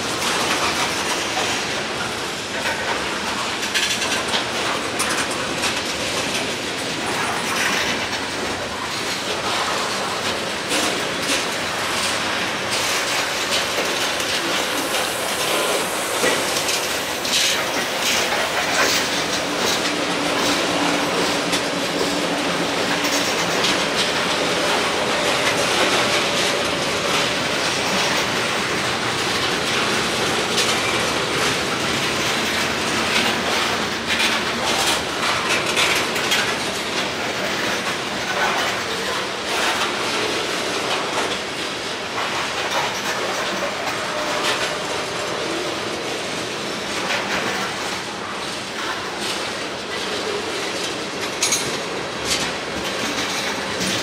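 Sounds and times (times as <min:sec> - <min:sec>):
train wheels rumbling on rail: 0:00.0 - 0:54.0
wheels clicking over rail joints: 0:00.0 - 0:54.0.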